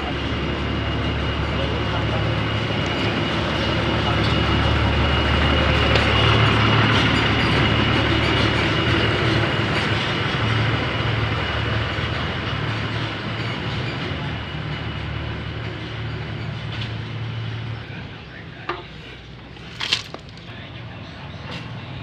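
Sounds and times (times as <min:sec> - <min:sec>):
machine humming and whining: 0:00.0 - 0:19.7.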